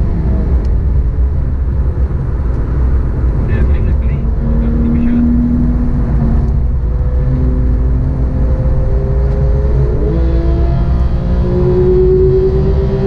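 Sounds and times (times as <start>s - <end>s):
road and tyre rumble: 0.0s - 13.0s
sports car engine accelerating: 0.0s - 13.0s.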